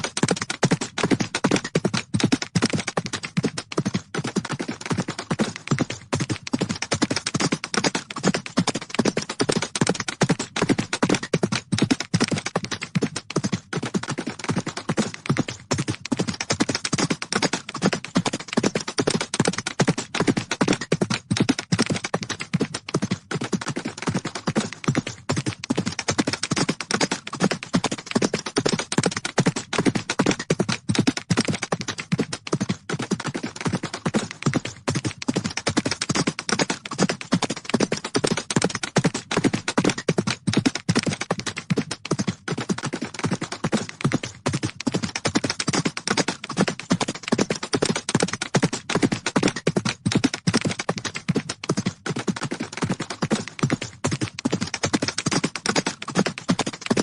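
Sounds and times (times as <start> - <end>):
horses galloping: 0.0 - 57.0.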